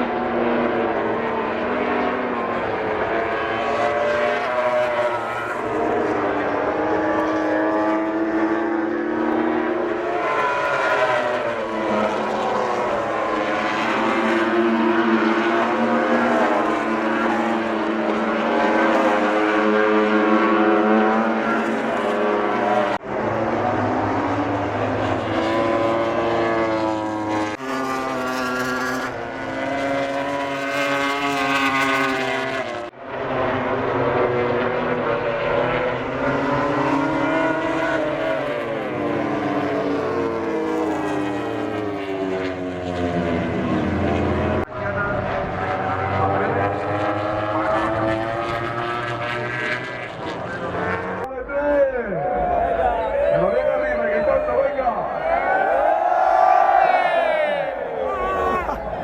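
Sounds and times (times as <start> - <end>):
racing motorcycle engines: 0.0 - 59.0.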